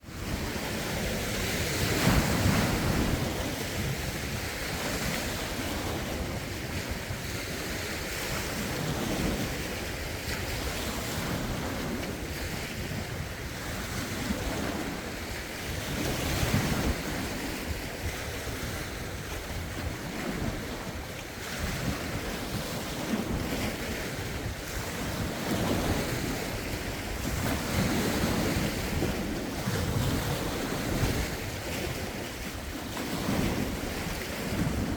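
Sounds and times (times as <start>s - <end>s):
lake waves washing in: 0.0s - 34.9s
wind buffeting microphone: 0.0s - 34.9s.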